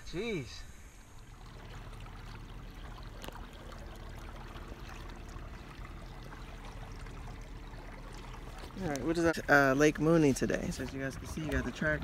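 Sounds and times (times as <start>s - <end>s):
faint steady hum: 0.0s - 12.0s
water lapping against boat hull: 1.1s - 12.0s.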